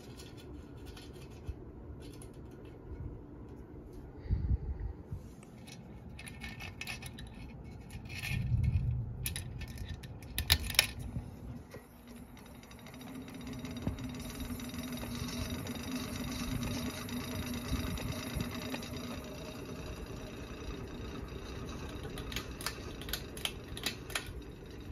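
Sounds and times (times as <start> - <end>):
ceiling fan motor hum: 0.0 - 24.9.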